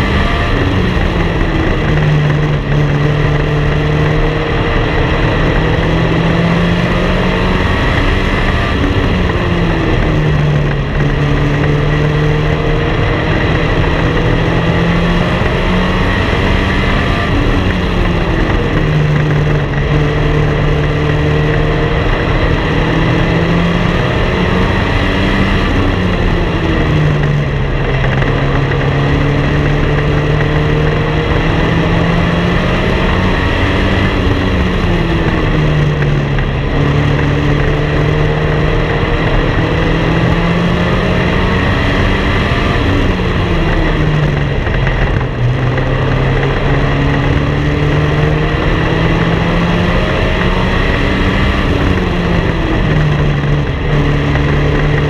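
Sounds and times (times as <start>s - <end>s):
other race car engines: 0.0s - 55.0s
race car engine: 0.0s - 55.0s.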